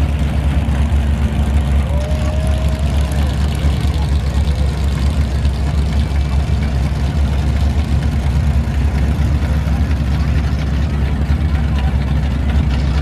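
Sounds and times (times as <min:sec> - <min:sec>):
truck engines rumbling: 0:00.0 - 0:13.0.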